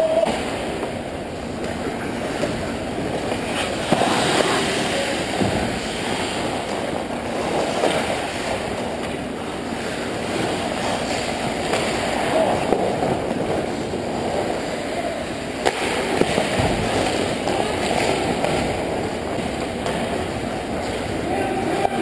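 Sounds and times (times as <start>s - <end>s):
skates scraping ice: 0.0s - 22.0s
sticks and puck clacking: 0.0s - 22.0s.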